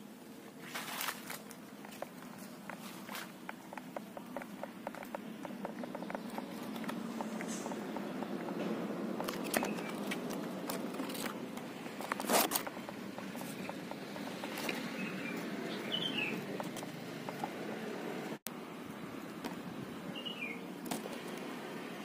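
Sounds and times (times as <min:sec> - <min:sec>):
leaves and twigs rustling: 0:00.0 - 0:18.2.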